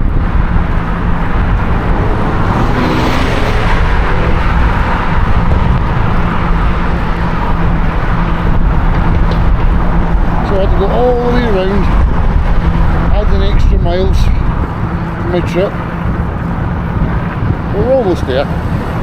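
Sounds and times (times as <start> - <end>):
road and traffic noise: 0.0 - 19.0
wind rushing over microphone: 0.0 - 19.0.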